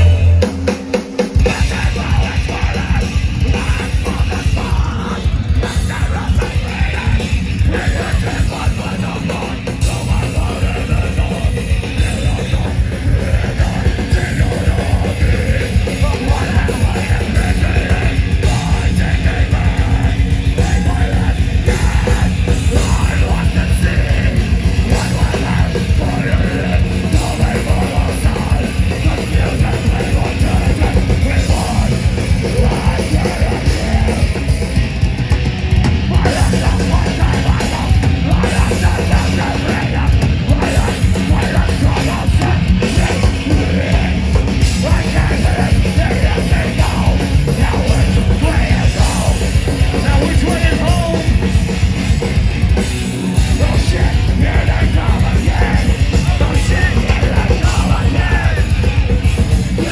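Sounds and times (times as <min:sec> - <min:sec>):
distorted guitars: 0:00.0 - 0:59.9
rapid pounding drums: 0:00.0 - 0:59.9.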